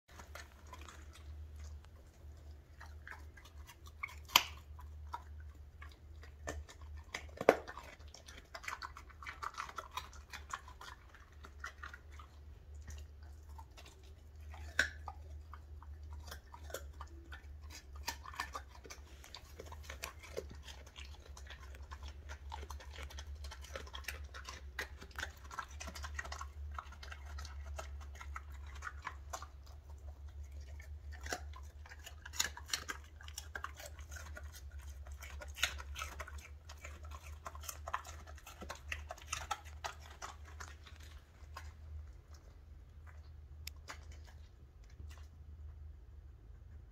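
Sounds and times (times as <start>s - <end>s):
dog crunching carrot: 0.1s - 46.9s.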